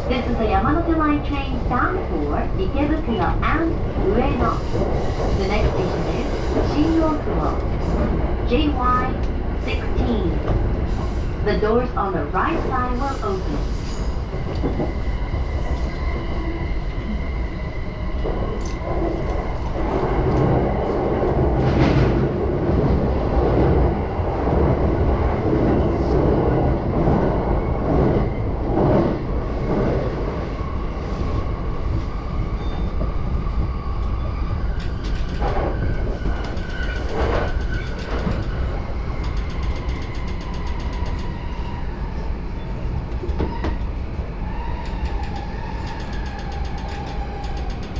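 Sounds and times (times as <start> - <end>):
train rumble and rail noise: 0.0 - 47.9.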